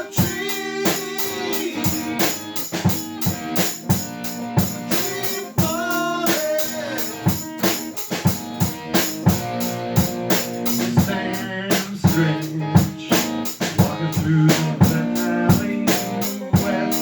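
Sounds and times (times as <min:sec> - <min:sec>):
drum kit beat: 0:00.0 - 0:17.0
rock band playing: 0:00.0 - 0:17.0.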